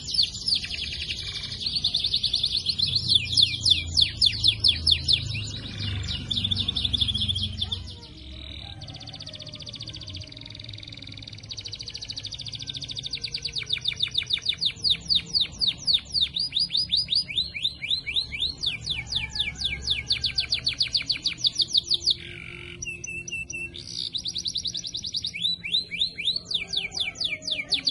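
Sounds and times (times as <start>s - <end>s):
canary singing trills: 0.0s - 27.9s.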